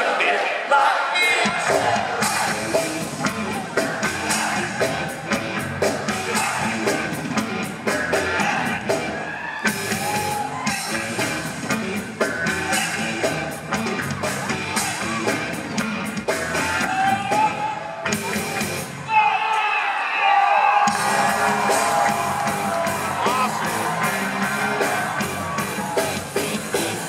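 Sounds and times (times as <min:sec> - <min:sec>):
drums beating: 0:01.2 - 0:19.1, 0:20.8 - 0:27.0
electric bass: 0:01.6 - 0:19.0, 0:20.9 - 0:27.0.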